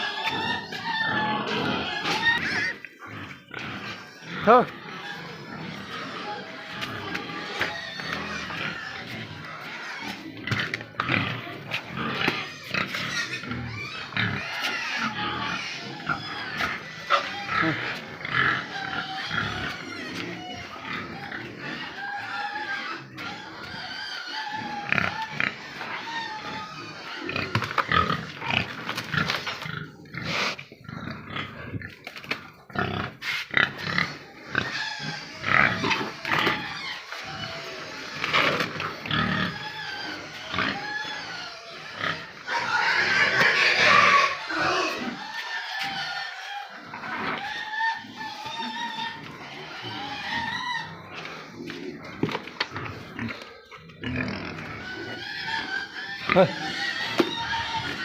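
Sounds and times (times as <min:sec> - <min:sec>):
pigs squealing and grunting: 0:00.0 - 0:58.0.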